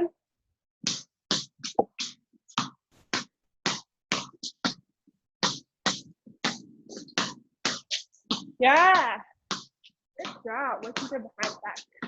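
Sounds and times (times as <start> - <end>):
basketball bouncing on floor: 0.9 - 4.8, 5.4 - 12.0.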